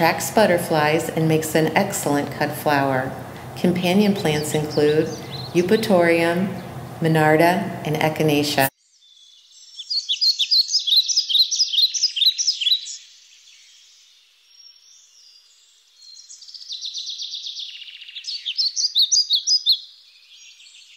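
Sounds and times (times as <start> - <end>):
songbirds chirping and trilling: 0.0 - 20.9.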